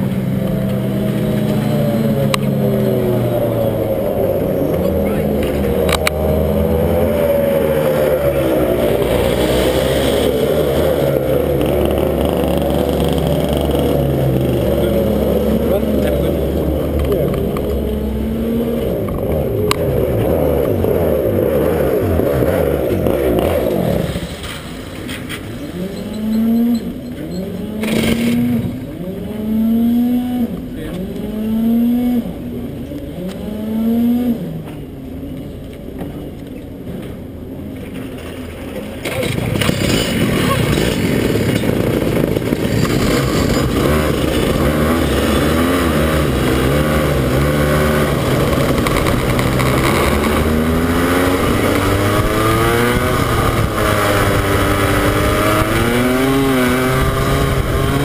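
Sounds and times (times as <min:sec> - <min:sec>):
kart engines running: 0:00.0 - 0:29.4, 0:34.5 - 0:58.0
kart engine revving: 0:00.0 - 0:35.0, 0:37.7 - 0:58.0.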